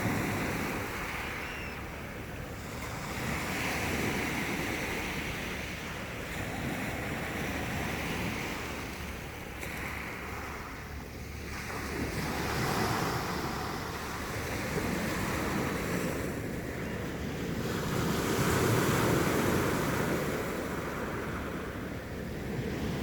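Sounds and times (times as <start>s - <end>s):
sea waves washing in: 0.0s - 23.0s.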